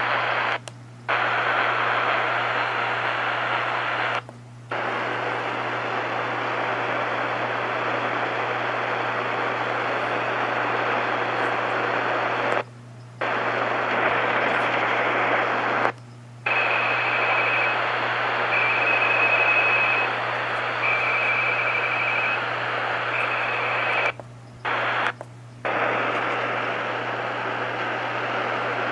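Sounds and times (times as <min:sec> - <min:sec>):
faint high radio tone: 0:00.0 - 0:28.9
radio buzzing hiss: 0:00.0 - 0:28.9.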